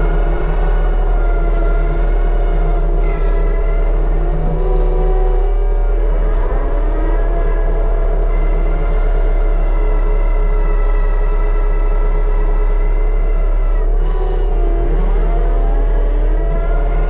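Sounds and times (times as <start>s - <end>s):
excavator engine: 0.0s - 17.0s.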